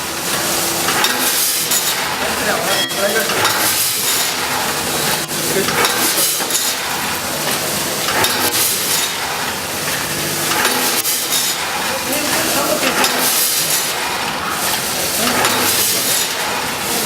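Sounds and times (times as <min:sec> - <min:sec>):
packaging machine hissing clatter: 0:00.0 - 0:17.0
sharp machine clicks: 0:00.8 - 0:16.8.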